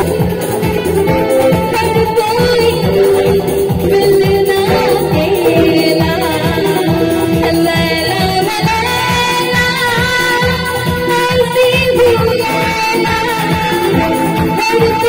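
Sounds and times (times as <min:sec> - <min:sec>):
live band playing: 0:00.0 - 0:15.0
woman singing into a microphone: 0:00.0 - 0:15.0.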